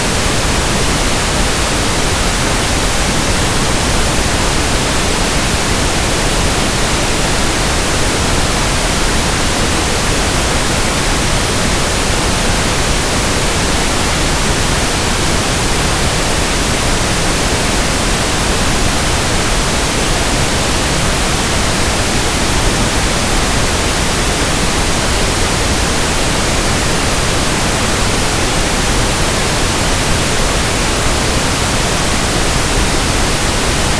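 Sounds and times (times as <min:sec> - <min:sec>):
pink noise hiss: 0:00.0 - 0:33.9.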